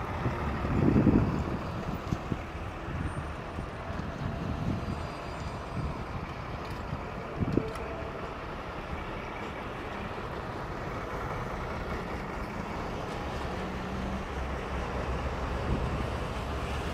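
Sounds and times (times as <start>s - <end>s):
trolleybus driving by: 0.0s - 16.9s.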